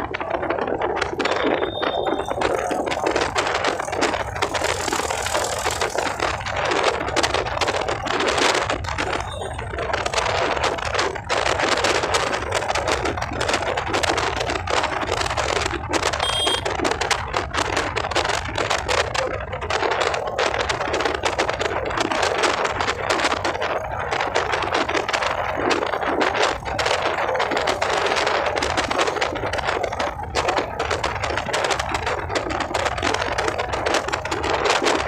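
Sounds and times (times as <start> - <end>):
glitching audio crackling and clicking: 0.0 - 35.0
steady low rumble: 0.0 - 35.0.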